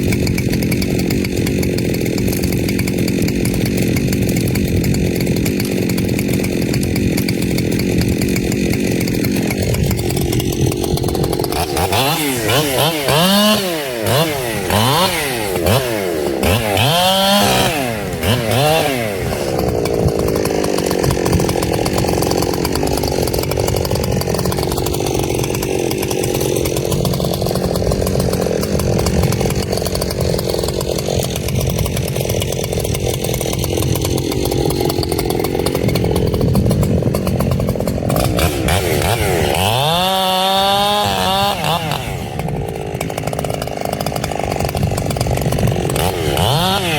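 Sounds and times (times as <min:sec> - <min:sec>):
chainsaw revving and cutting wood: 0:00.0 - 0:46.9.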